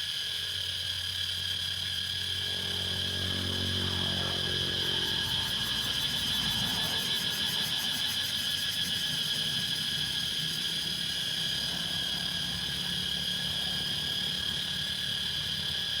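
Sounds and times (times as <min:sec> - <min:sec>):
cicadas droning: 0:00.0 - 0:16.0.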